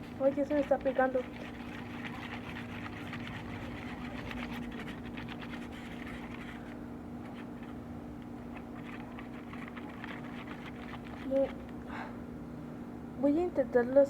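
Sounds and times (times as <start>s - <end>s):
stick stirring sticky slime: 0.0s - 11.8s
steady low hum: 0.0s - 14.0s.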